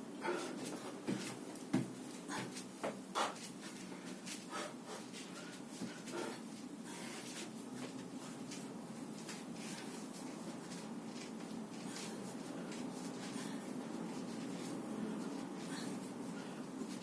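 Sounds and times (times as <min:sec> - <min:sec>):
rustling and rubbing: 0:00.6 - 0:17.0.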